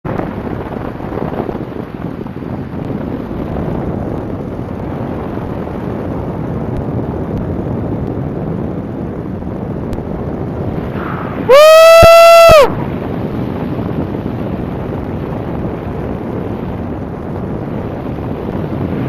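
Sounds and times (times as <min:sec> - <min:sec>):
wind rush over microphone: 0:00.0 - 0:19.0.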